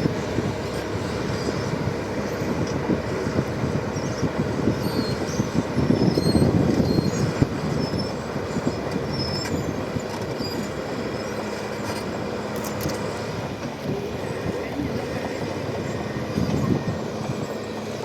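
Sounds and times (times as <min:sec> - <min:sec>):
bulldozer diesel engine rumbling: 0:00.0 - 0:18.0
steel tracks squeaking and clanking: 0:00.0 - 0:18.0.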